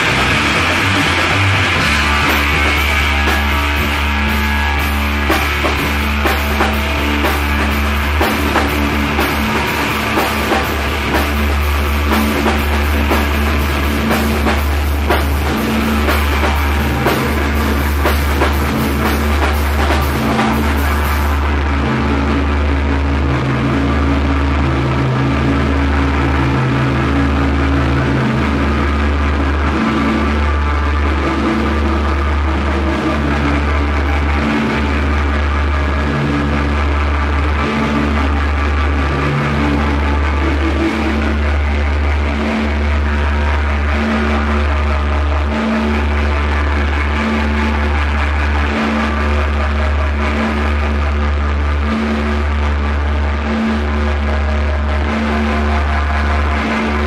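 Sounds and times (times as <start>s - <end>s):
drum kit: 0.0s - 52.6s
droning bass: 0.0s - 57.0s
heavy psychedelic rock music: 0.0s - 57.0s.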